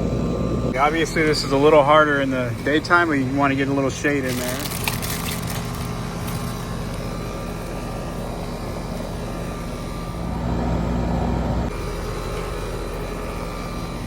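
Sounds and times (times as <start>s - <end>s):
air conditioner unit humming: 0.0s - 14.0s
fan rushing: 0.0s - 14.0s.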